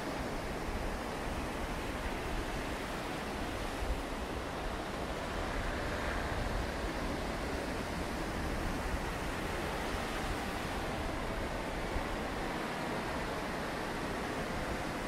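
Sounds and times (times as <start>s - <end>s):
sea waves breaking: 0.0s - 15.0s
wind rumble on microphone: 0.0s - 15.0s.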